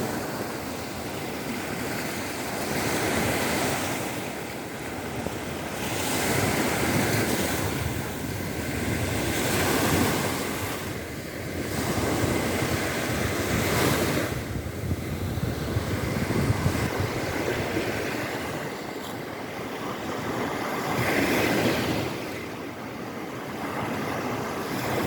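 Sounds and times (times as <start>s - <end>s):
waves washing in: 0.0s - 25.0s
wind on microphone: 0.0s - 25.0s.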